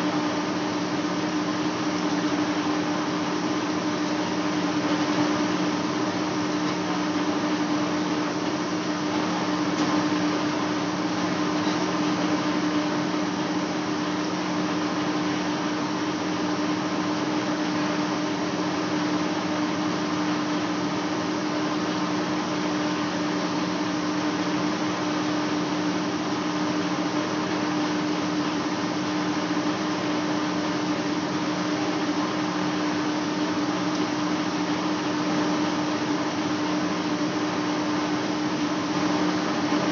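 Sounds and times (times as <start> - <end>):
lathe humming: 0.0 - 39.9.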